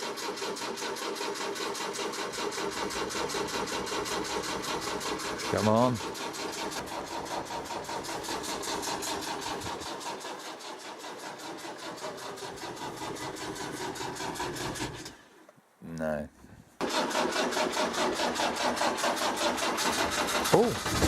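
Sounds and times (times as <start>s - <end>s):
starter motor cranking engine: 0.0s - 15.4s, 16.8s - 21.0s.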